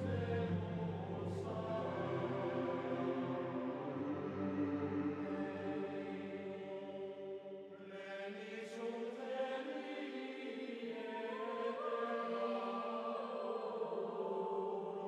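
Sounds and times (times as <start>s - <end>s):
choir-like chanting music: 0.0s - 15.0s.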